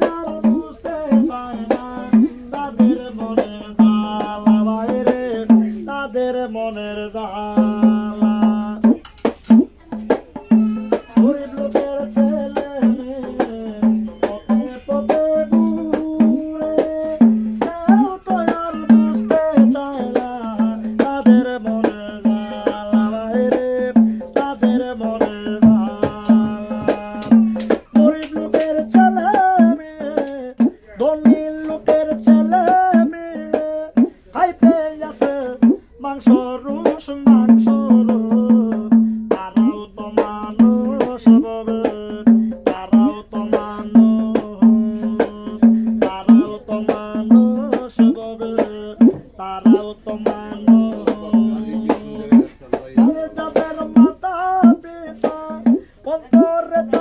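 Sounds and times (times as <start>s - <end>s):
hand-held frame drum: 0.0s - 57.0s
man singing: 0.0s - 57.0s.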